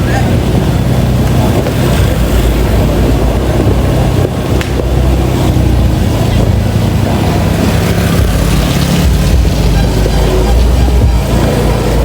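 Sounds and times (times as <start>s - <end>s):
vehicle engine running: 0.0s - 12.0s
wind on microphone: 0.0s - 12.0s.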